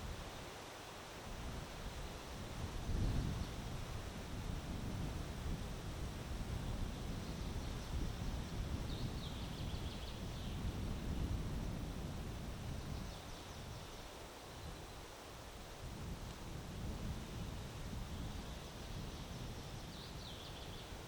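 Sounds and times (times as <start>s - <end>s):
wind gusting across microphone: 0.0s - 21.0s.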